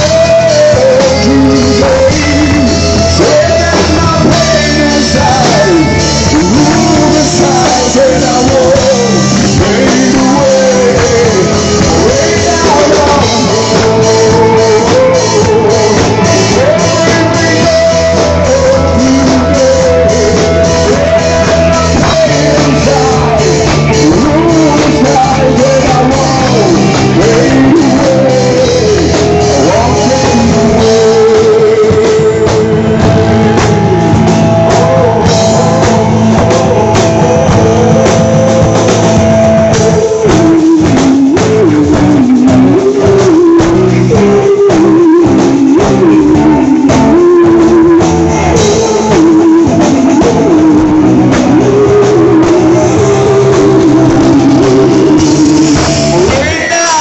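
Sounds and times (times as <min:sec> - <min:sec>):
drum kit: 0:00.0 - 0:57.0
electric bass: 0:00.0 - 0:57.0
electric guitar: 0:00.0 - 0:57.0
person singing: 0:00.0 - 0:57.0.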